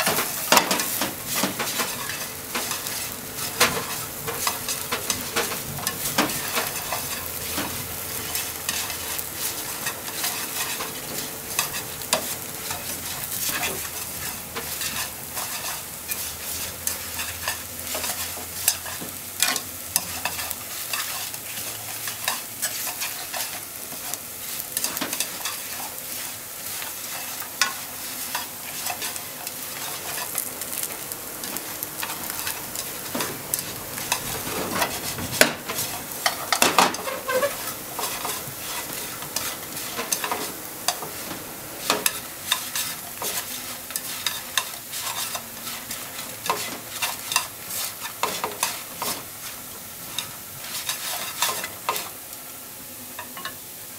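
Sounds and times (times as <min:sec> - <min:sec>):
spatula scraping a pan: 0:00.0 - 0:52.2
bread frying in a pan: 0:00.0 - 0:53.9.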